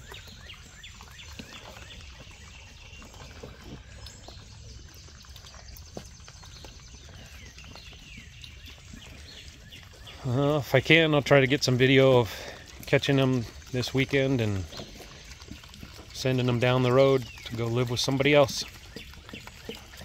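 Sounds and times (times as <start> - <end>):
birds chirping: 0.0 - 20.0
piglets rooting for feed: 0.0 - 20.0
pigs eating from trough: 0.0 - 20.0.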